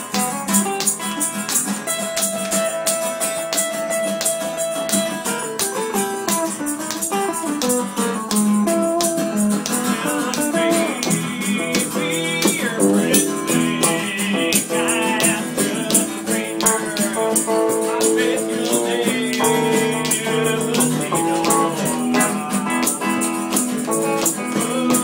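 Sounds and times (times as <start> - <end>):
guitar playing bluegrass tune: 0.0 - 25.0
hand percussion rattling: 0.0 - 25.0.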